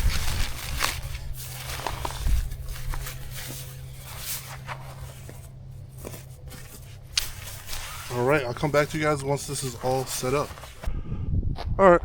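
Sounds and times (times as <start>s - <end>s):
camping gear rustling and knocking: 0.0s - 10.9s
steady low hum: 0.0s - 11.5s.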